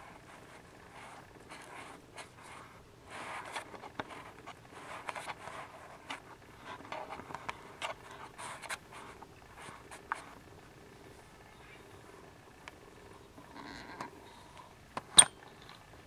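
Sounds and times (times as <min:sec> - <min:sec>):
kittens suckling and shuffling: 0:00.0 - 0:16.0.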